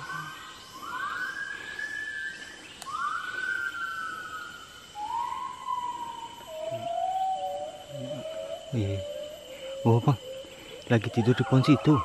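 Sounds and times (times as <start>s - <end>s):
bird whistled calls: 0.0s - 12.0s.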